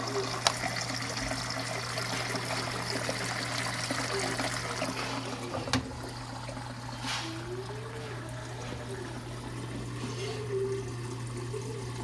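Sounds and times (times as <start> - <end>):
low machine hum: 0.0 - 12.0
water splashing in washing machine: 0.0 - 12.0.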